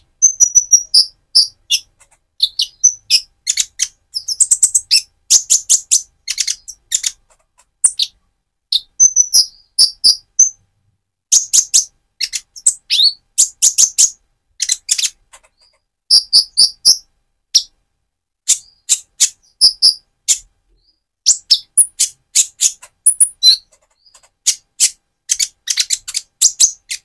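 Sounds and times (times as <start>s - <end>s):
bird singing high thin chirps: 0.2s - 7.2s, 7.8s - 10.6s, 11.3s - 17.0s, 18.5s - 27.0s.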